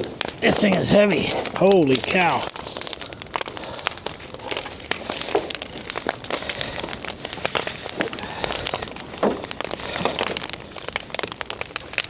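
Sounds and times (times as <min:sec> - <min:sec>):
strong knocks in fire: 0:00.0 - 0:12.0
wood fire crackling: 0:00.0 - 0:12.0.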